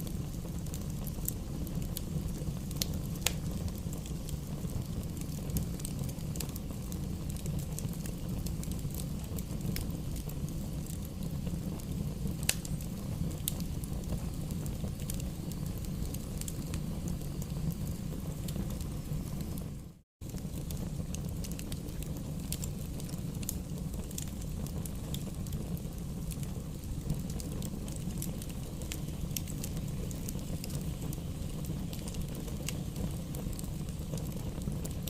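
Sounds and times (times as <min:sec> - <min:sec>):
burning logs crackling and popping: 0:00.0 - 0:35.0
low rumble of flames: 0:00.0 - 0:35.0.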